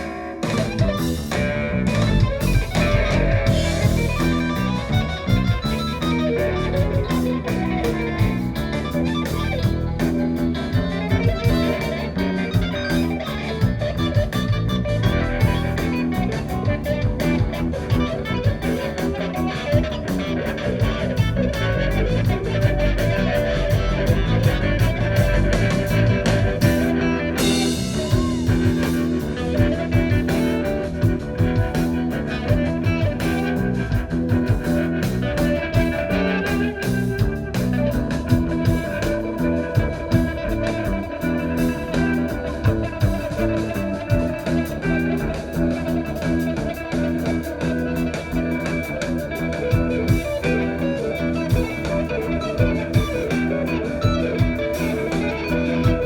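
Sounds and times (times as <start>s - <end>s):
bass: 0.0s - 56.0s
drum kit: 0.0s - 56.0s
electric guitar: 0.0s - 56.0s.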